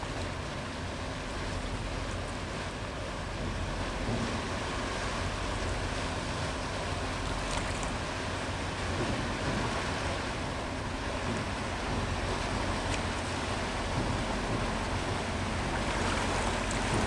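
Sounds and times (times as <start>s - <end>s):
rushing water from ship wash: 0.0s - 17.0s.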